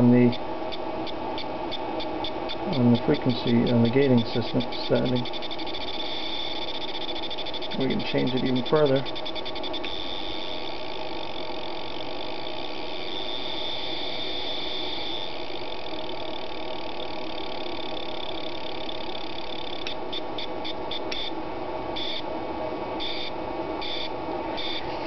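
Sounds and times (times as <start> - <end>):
spark electric buzz: 0.7 - 22.3, 23.0 - 25.0.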